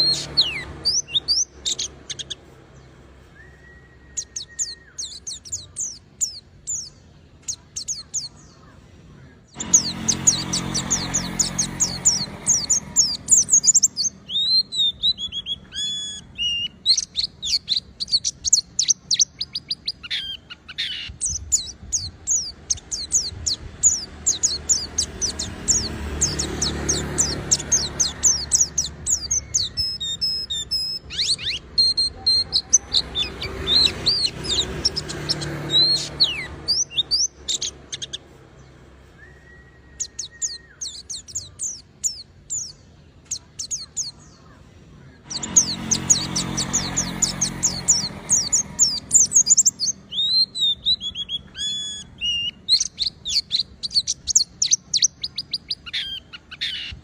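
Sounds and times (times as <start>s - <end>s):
bird chirps and trills: 0.0s - 57.0s.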